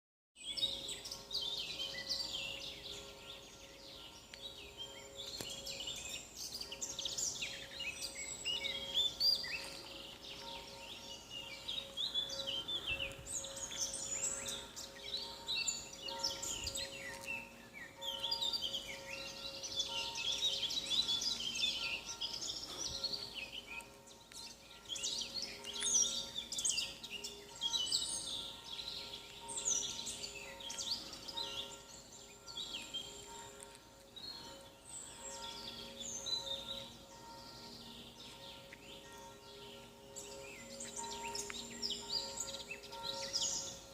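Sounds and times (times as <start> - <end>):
small birds twittering: 0.4 - 43.9.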